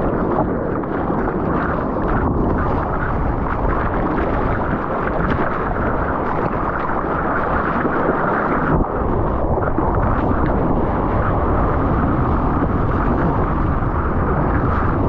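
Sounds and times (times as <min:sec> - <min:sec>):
surf water rushing: 0:00.0 - 0:15.0
wind buffeting microphone: 0:00.0 - 0:15.0.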